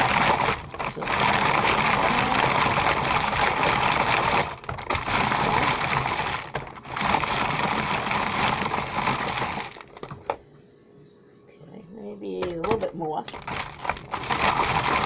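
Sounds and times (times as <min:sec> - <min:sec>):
chopper blade crunching cookies: 0:00.0 - 0:10.3, 0:12.4 - 0:15.0.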